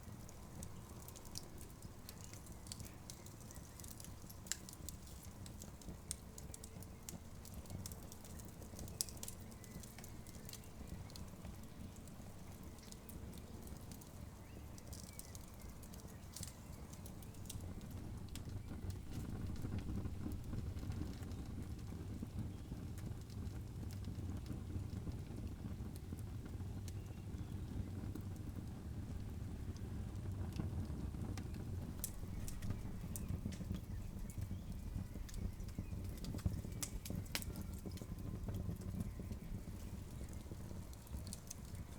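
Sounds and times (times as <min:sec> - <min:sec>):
campfire flames rumbling: 0:00.0 - 0:41.9
fire crackling and popping: 0:00.0 - 0:41.9.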